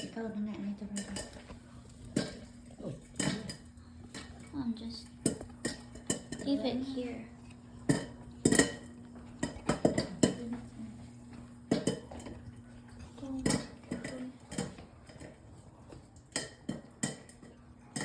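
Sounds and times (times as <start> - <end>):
popcorn popping under a lid: 0.0 - 12.6, 13.2 - 18.0.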